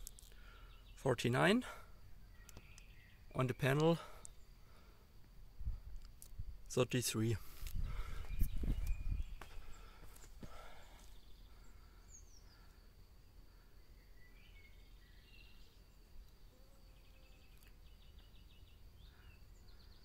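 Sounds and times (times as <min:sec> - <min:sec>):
faint bird chirping and trills: 0:00.0 - 0:20.0
faint steady high whine: 0:00.0 - 0:20.0.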